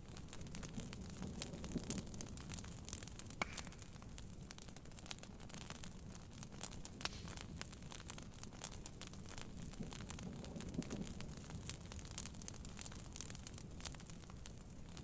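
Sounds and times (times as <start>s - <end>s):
rain on a tent: 0.0s - 15.0s
wood fire crackling and popping: 0.0s - 15.0s.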